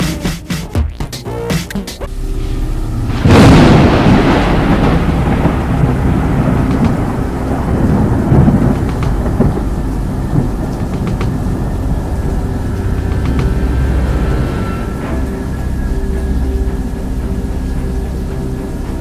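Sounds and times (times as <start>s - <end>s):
thunder clap and rumbling: 2.1s - 19.0s.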